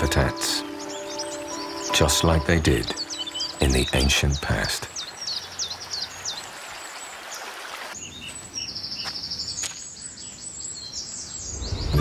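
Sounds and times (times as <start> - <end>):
bird trill: 0.0 - 6.5, 8.0 - 12.0
outdoor background hiss: 0.0 - 12.0
small birds chirping: 0.0 - 12.0.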